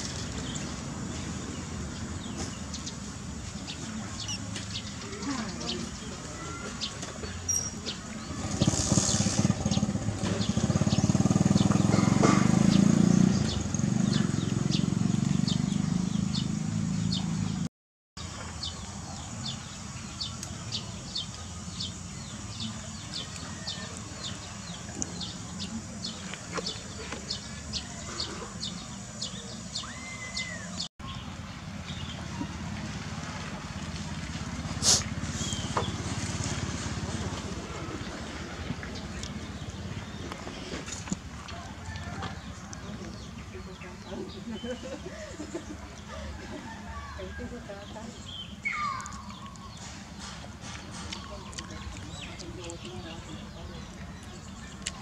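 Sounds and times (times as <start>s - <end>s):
passing vehicle rumble: 7.2s - 17.7s, 18.4s - 55.0s.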